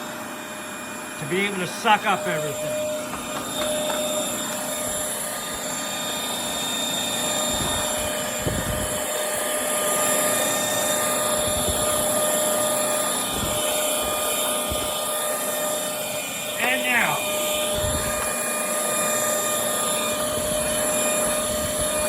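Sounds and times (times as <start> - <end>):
stick vacuum whining: 0.0 - 22.0.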